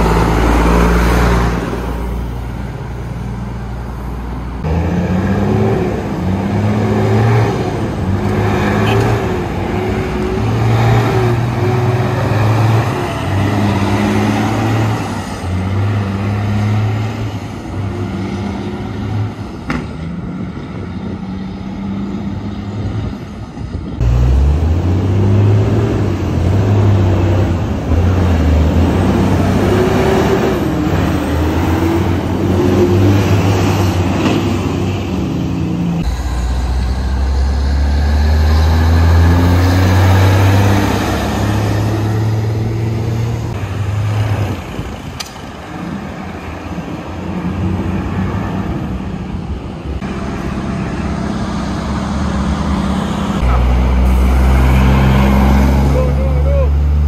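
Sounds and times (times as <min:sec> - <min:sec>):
heavy diesel engines passing: 0:00.0 - 0:57.0
road traffic: 0:00.0 - 0:57.0.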